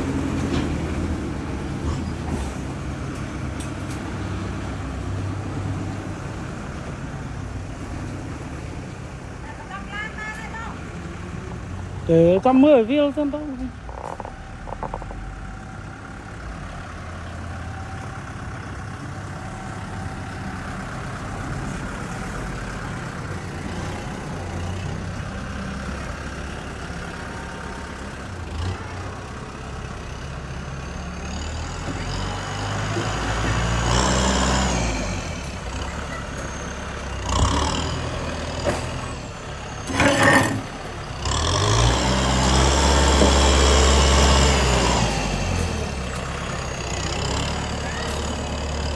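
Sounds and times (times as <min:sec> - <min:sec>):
heavy diesel engine rumbling: 0:00.0 - 0:48.9.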